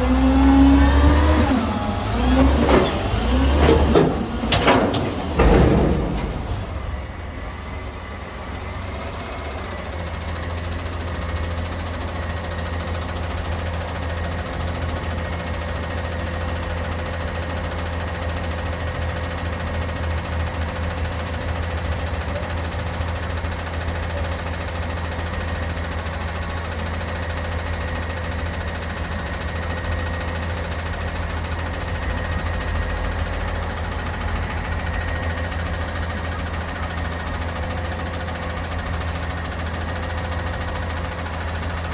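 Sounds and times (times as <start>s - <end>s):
diesel engine idling: 0.0s - 41.9s.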